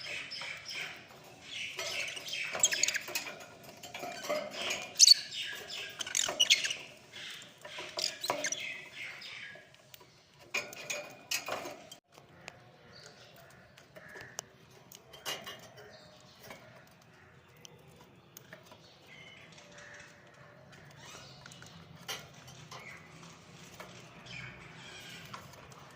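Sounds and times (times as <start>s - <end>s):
lovebirds chirping and chattering: 0.0s - 25.9s.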